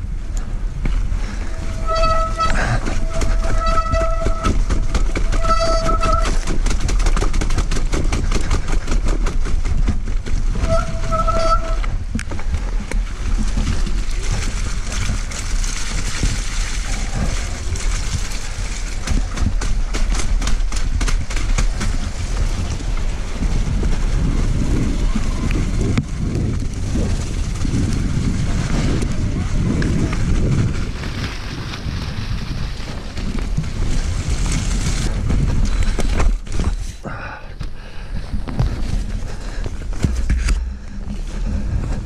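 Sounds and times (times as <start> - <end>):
tyres rumbling over rough ground: 0.0 - 42.0
wind on microphone: 0.0 - 42.0.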